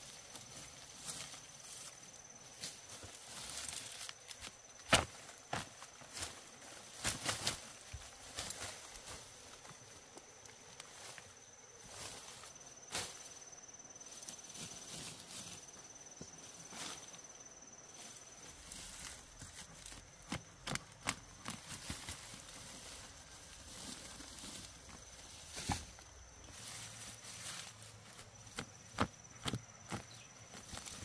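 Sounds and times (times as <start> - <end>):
background hiss: 0.0 - 20.4, 21.2 - 31.0
high insect trill: 0.0 - 31.0.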